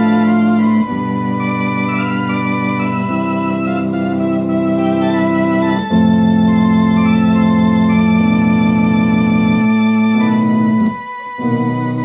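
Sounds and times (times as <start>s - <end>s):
organ chords with vibrato: 0.0s - 12.0s.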